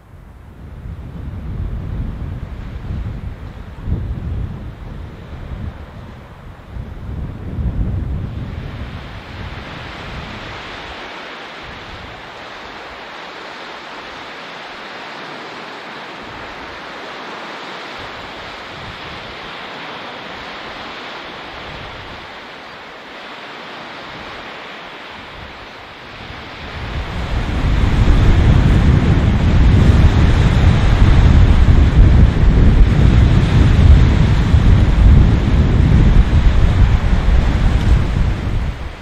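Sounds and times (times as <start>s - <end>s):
wind buffeting microphone: 0.0s - 22.6s, 24.0s - 39.0s
waves breaking on shore: 0.0s - 39.0s.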